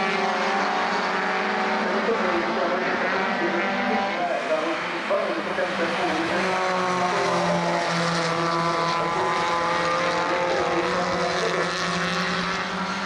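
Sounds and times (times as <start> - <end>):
racing car engines droning: 0.0 - 13.0.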